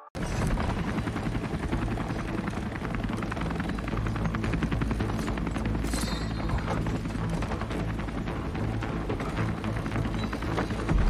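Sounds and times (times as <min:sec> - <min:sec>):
helicopter rotors chopping: 0:00.2 - 0:11.0
low continuous drone: 0:00.2 - 0:11.0.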